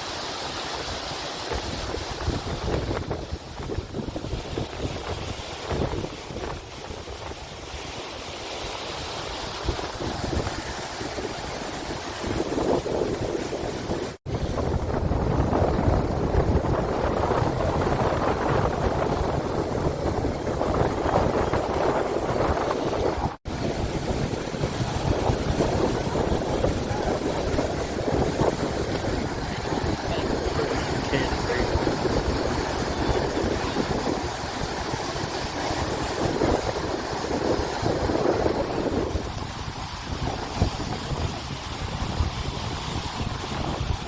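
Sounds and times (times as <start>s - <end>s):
waves breaking on beach: 0.0s - 44.0s
wind buffeting microphone: 0.8s - 44.0s.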